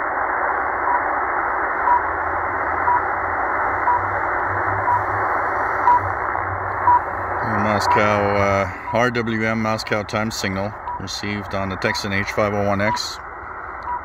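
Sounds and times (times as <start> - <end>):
shortwave static hiss: 0.0 - 14.0.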